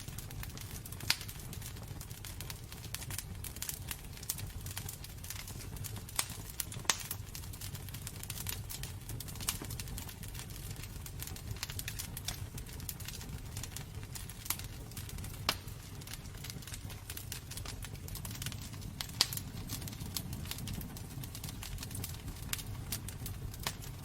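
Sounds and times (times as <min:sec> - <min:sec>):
fire crackling and popping: 0:00.0 - 0:24.0
low steady fire rumble: 0:00.0 - 0:24.0.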